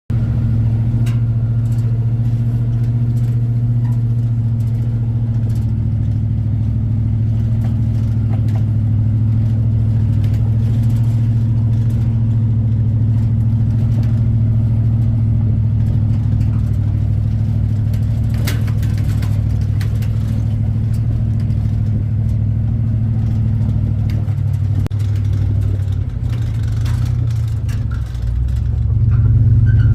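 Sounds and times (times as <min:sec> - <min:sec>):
car engine and road noise: 0:00.1 - 0:29.9.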